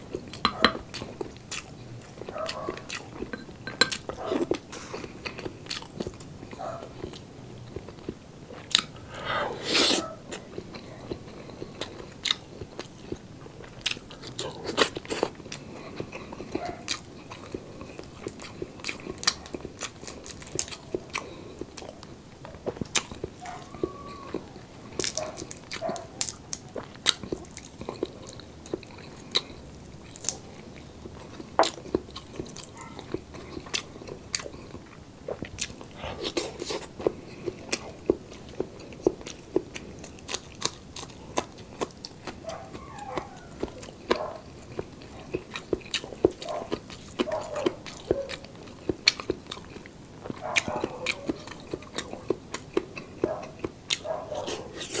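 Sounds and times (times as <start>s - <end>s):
wet chewing and mouth smacks: 0.0s - 55.0s.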